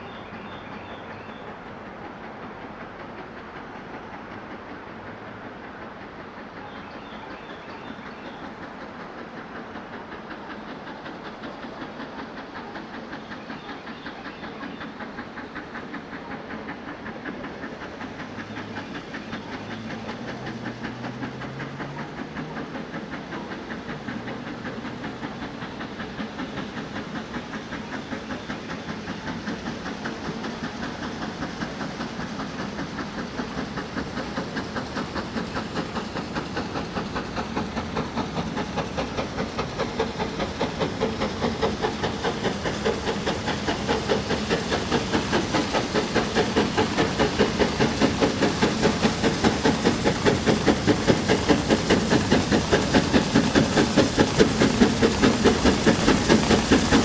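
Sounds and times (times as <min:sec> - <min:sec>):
steam locomotive exhaust beat: 0:00.0 - 0:57.0.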